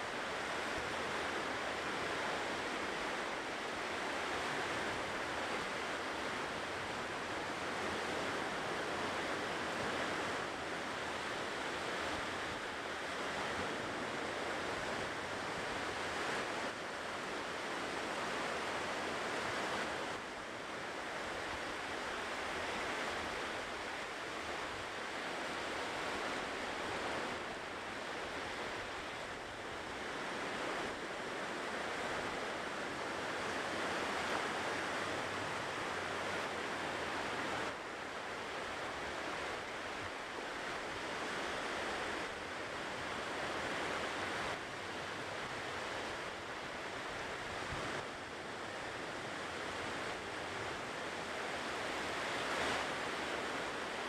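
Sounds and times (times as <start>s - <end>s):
ocean waves washing onto shore: 0.0s - 54.0s.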